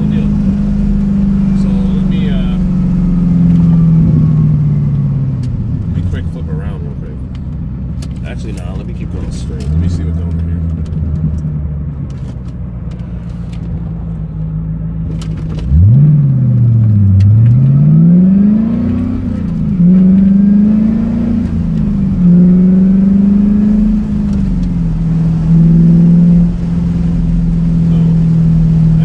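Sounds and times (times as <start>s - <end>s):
car engine accelerating through gears: 0.0s - 29.0s.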